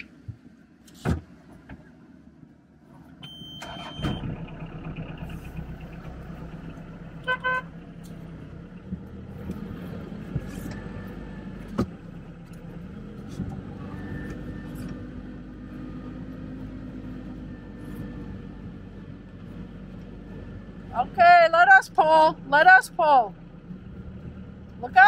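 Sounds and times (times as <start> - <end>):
vehicle engine idling: 1.8 - 25.0.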